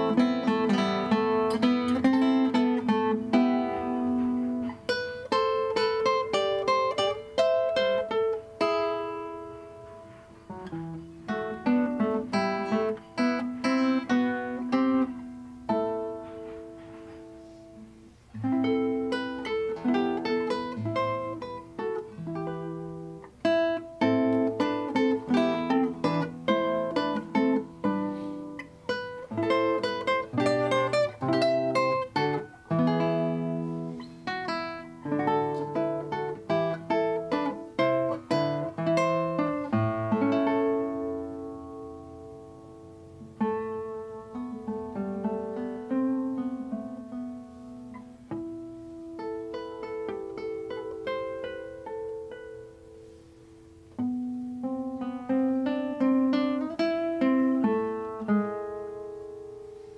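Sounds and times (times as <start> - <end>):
classical guitar fingerstyle: 0.0 - 59.9.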